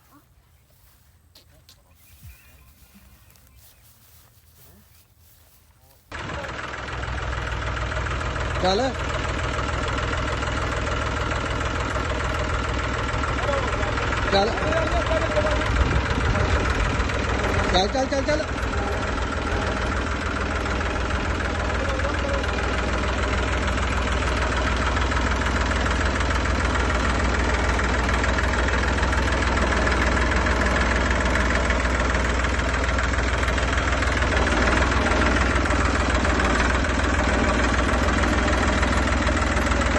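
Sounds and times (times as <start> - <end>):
engine running with low rumble: 0.0 - 39.9.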